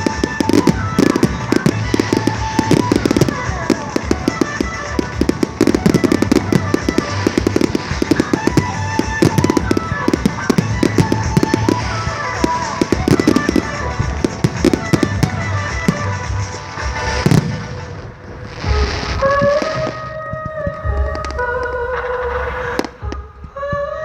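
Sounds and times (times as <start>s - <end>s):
fireworks bangs and crackling: 0.0s - 23.5s
music playing: 0.0s - 24.0s.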